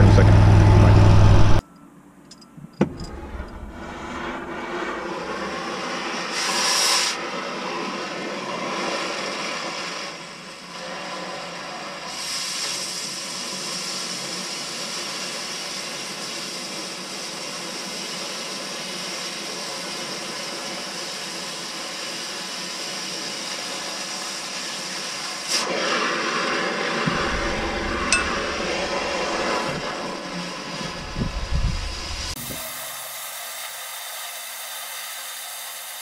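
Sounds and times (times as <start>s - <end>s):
cutting torch hissing: 3.6s - 36.0s.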